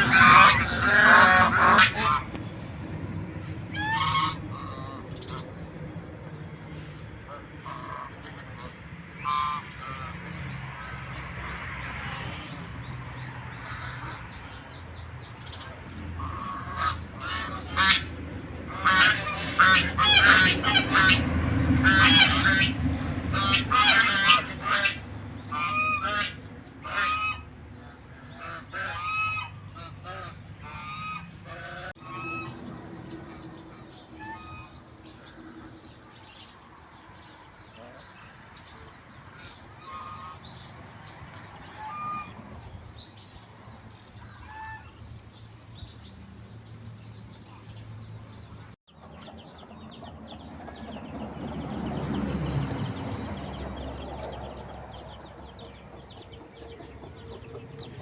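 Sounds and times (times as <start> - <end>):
geese honking: 0.0 - 46.1, 47.0 - 58.0.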